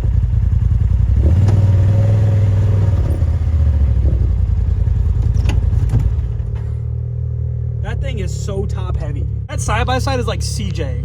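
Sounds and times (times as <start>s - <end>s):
utility vehicle engine rumbling: 0.0s - 11.0s.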